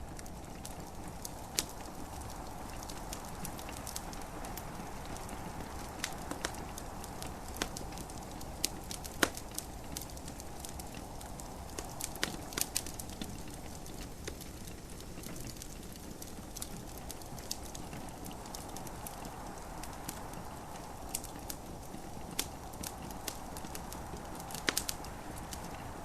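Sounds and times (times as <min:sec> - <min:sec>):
gentle rain: 0:00.0 - 0:26.0
wood fire crackling: 0:00.0 - 0:26.0.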